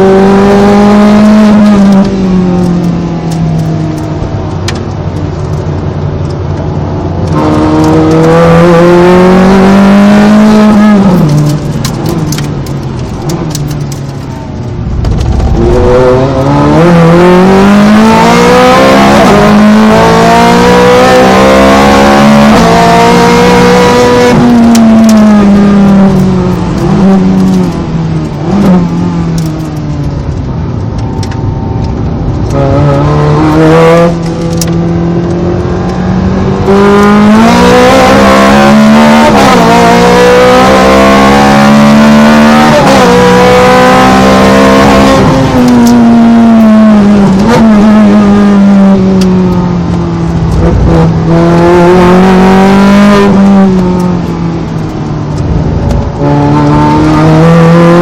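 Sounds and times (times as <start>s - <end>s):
sports car engine at full throttle: 0.0s - 58.0s.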